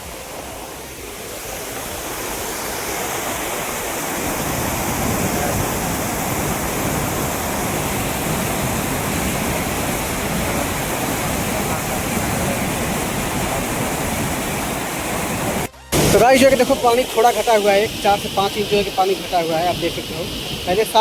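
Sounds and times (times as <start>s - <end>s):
floodwater rushing roar: 0.0s - 21.0s.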